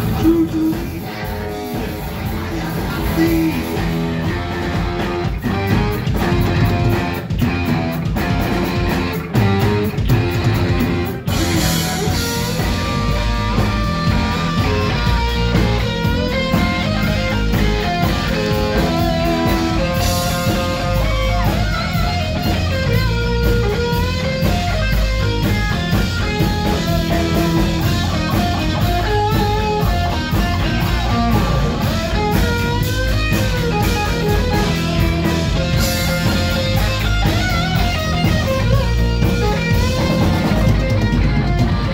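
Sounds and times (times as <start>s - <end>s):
bass guitar: 0.0s - 41.9s
distorted electric guitar: 0.0s - 41.9s
drums: 0.0s - 41.9s
lead guitar bending notes: 0.0s - 41.9s.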